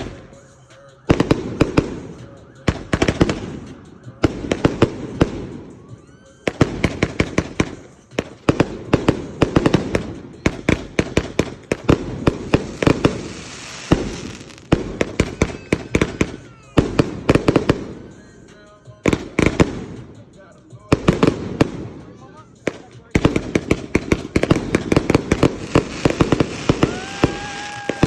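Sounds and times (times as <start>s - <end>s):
fireworks cracking and popping: 1.1s - 18.3s, 19.0s - 20.3s, 20.9s - 28.0s.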